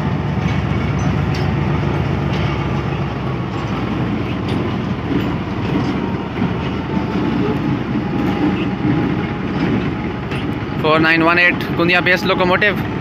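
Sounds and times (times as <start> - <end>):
diesel locomotive engine: 0.0 - 13.0
wheels clicking on rails: 0.0 - 13.0.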